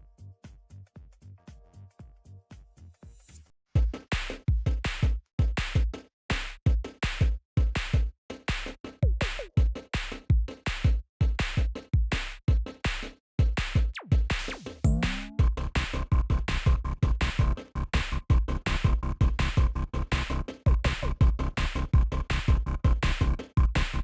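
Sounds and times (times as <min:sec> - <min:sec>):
electronic music with drum-machine beat: 0:03.8 - 0:24.0.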